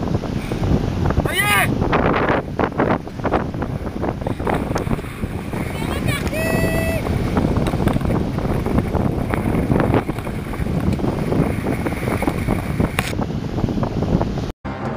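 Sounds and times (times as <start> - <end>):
water rushing and splashing: 0.0 - 14.5
wind buffeting microphone: 0.0 - 14.5.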